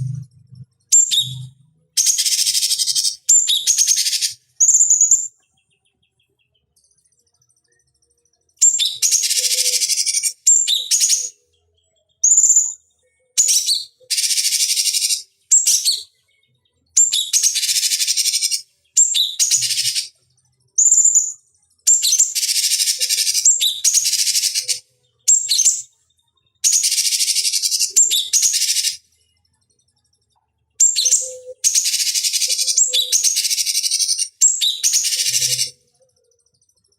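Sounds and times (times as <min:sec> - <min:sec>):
bird chattering song: 0:00.0 - 0:06.8, 0:08.6 - 0:20.2, 0:20.8 - 0:25.9, 0:26.5 - 0:29.5, 0:30.7 - 0:36.9.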